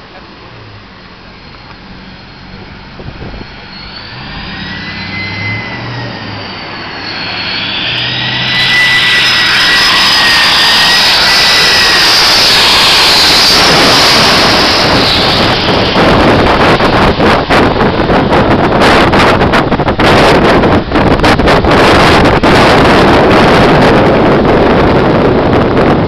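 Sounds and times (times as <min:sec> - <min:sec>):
high wavering whine: 0:00.0 - 0:26.0
jet engines roaring overhead: 0:00.0 - 0:26.0.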